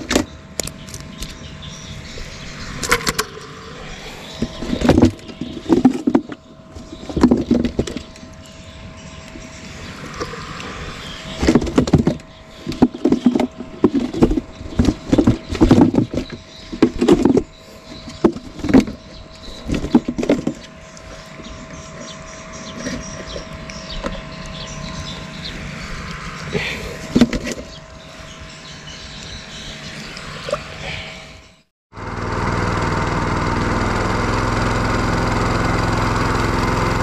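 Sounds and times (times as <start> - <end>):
faint steady hum: 0.0 - 31.7.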